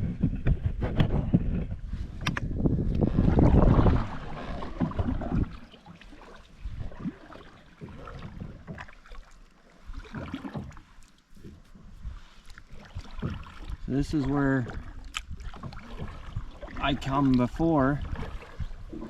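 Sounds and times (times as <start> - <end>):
kayak paddle splashing in water: 2.4 - 19.0.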